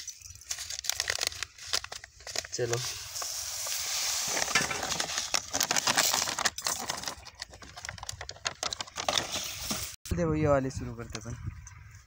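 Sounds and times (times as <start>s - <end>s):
paper seed packet rustling: 0.0s - 10.0s.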